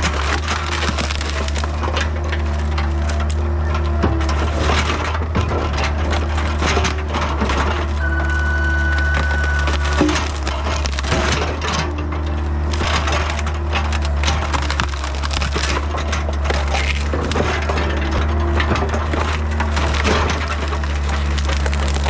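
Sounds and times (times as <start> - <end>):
excavator diesel engine running: 0.0 - 22.0
wood cracking and splintering: 0.0 - 22.0.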